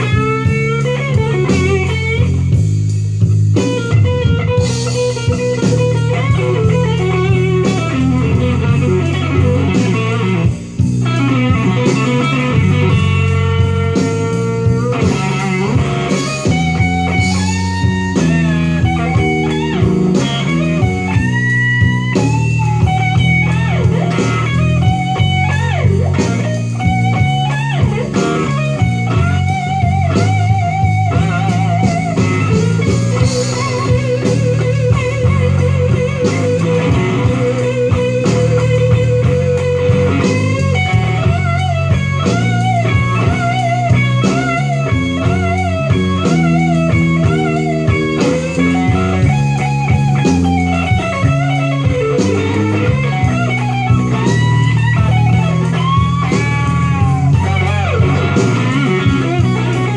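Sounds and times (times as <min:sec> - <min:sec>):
electric guitar blues lead: 0:00.0 - 0:59.9
low accompaniment: 0:00.0 - 0:59.9.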